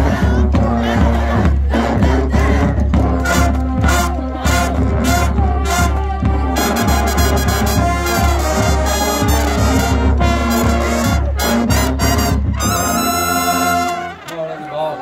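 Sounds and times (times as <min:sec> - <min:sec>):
marching band brass playing: 0:00.0 - 0:14.7.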